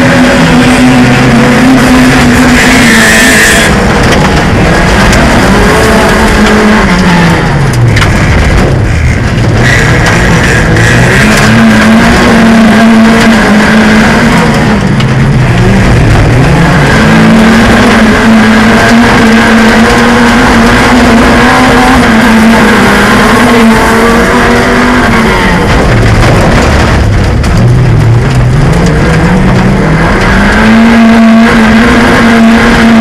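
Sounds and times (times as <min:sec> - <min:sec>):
loud noisy rush: 0:00.0 - 0:33.0
race car engine at high revs: 0:00.0 - 0:33.0.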